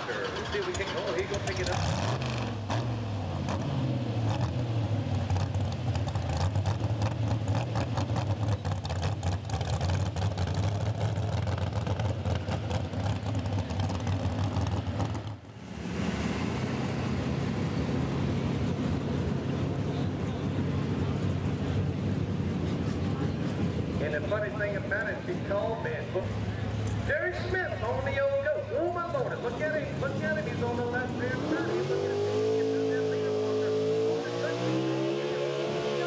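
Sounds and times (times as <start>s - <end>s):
loud truck engine running: 0.0s - 36.0s.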